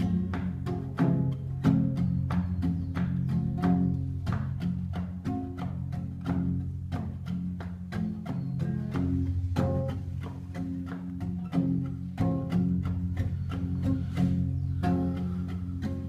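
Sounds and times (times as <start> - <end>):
classical guitar fingerpicked: 0.0 - 16.0.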